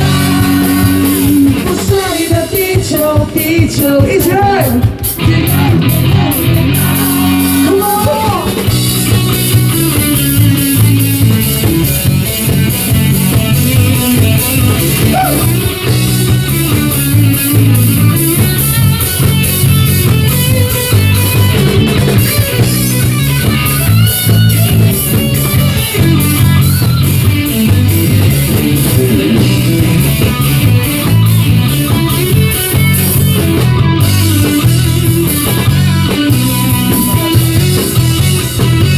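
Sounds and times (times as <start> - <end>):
drum kit beat: 0.0 - 38.9
electric guitar: 0.0 - 38.9.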